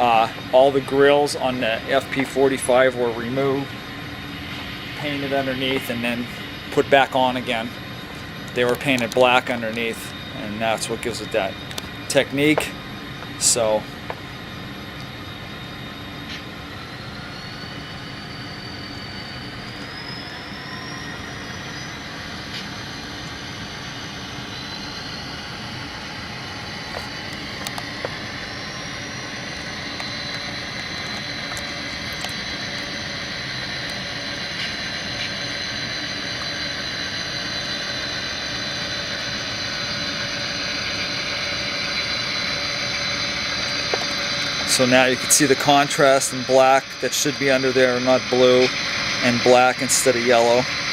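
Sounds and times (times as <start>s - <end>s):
high turbo whine: 0.0s - 50.9s
model locomotive engine hum: 0.0s - 50.9s.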